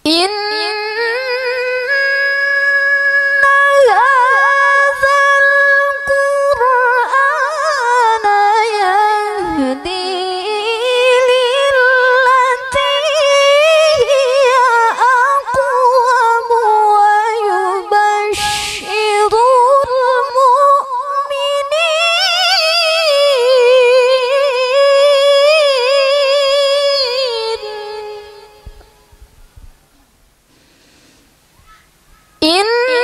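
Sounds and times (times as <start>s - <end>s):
woman reciting melodically: 0.0s - 29.2s, 31.6s - 33.0s.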